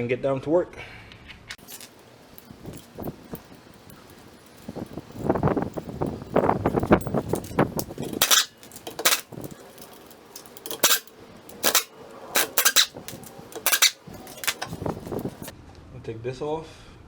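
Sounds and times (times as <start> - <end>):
handling noise: 1.6 - 15.5
metal tools clinking: 1.6 - 15.5.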